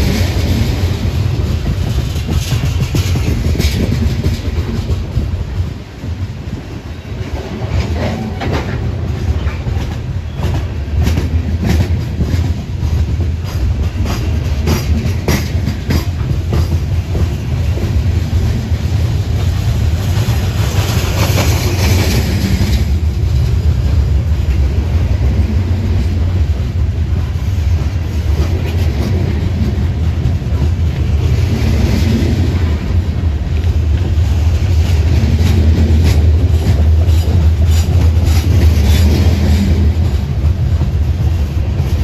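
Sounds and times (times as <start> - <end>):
freight train rolling past: 0.0 - 42.0.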